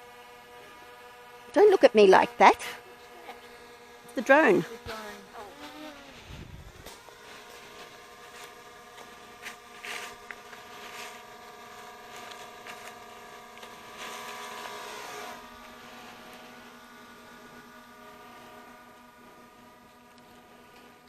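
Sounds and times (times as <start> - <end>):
drone propellers whining: 0.0 - 20.5.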